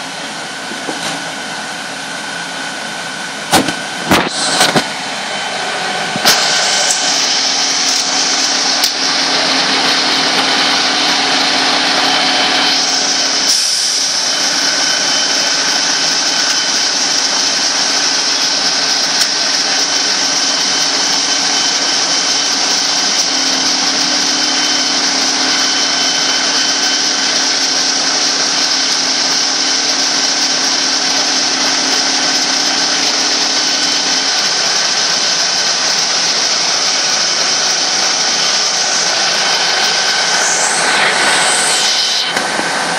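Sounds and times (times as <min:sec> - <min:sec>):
fire engines mechanical drone: 0:00.0 - 0:42.9
high whine: 0:00.0 - 0:42.9.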